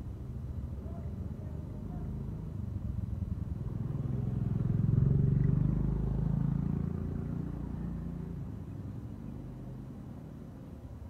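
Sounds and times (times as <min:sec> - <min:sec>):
vehicle engine passing by: 0:00.8 - 0:10.4.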